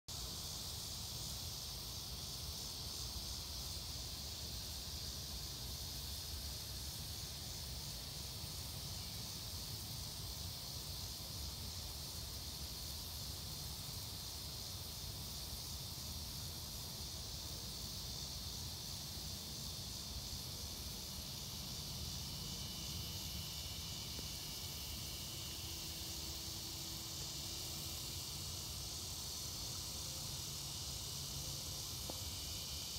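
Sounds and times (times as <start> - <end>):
cicadas and crickets chorus: 0.1 - 32.9
sprinklers hissing: 0.1 - 32.9.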